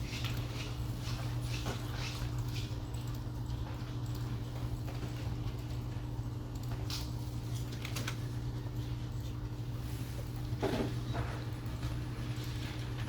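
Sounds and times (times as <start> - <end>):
office low hum: 0.0 - 13.0.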